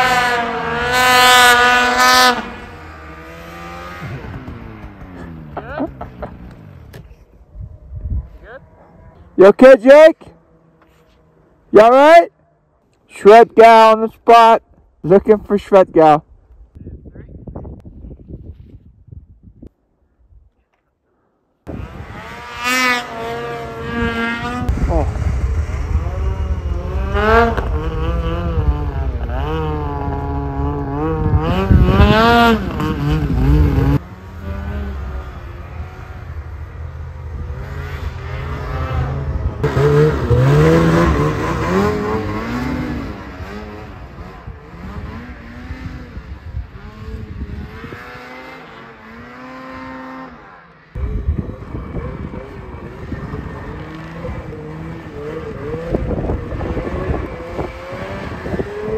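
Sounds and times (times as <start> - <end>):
snowmobile engines revving: 0.0 - 7.4, 8.3 - 12.4, 13.0 - 16.2, 21.6 - 58.9.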